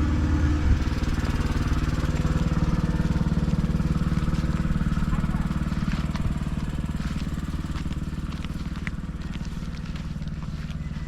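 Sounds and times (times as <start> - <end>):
small engine running steadily: 0.0 - 11.0.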